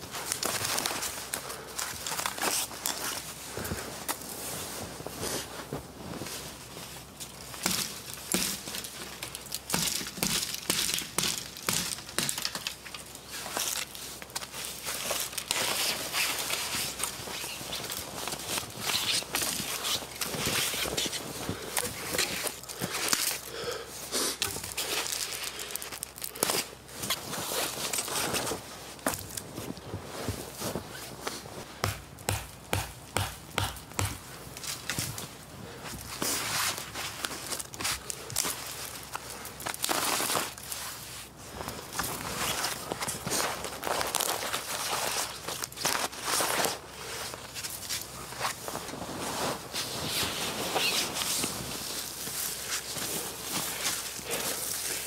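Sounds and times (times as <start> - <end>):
nylon jacket rustling: 0.1 - 9.6, 12.8 - 31.7, 34.2 - 55.0
snow crunching: 0.1 - 12.2, 12.8 - 55.0.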